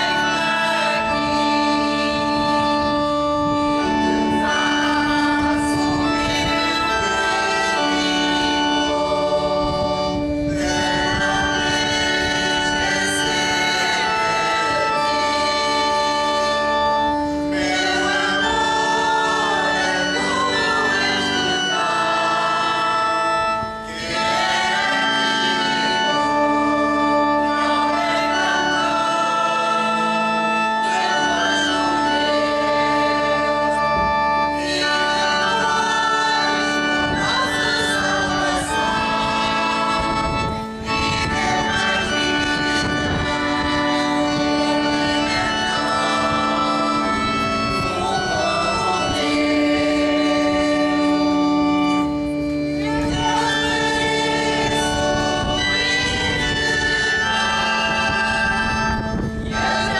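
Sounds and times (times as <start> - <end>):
choir singing a hymn: 0.0 - 59.9
held chords accompaniment: 0.0 - 59.9.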